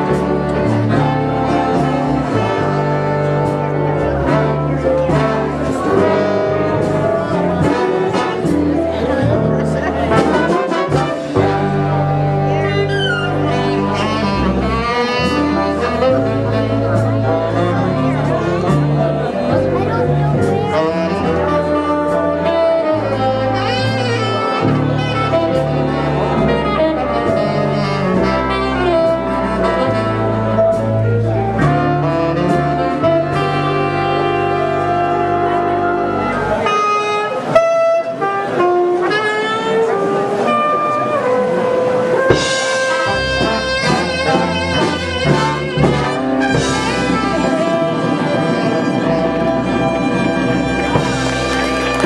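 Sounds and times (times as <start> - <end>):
bass line: 0.0 - 52.0
instrumental jazz music: 0.0 - 52.0.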